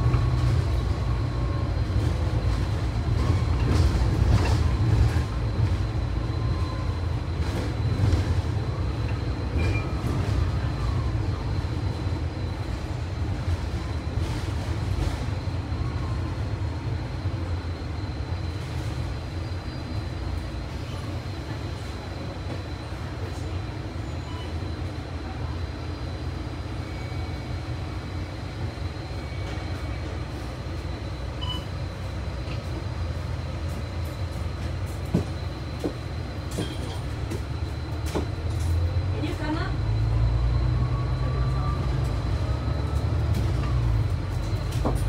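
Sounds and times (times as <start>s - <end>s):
bus engine and road noise: 0.0s - 45.0s.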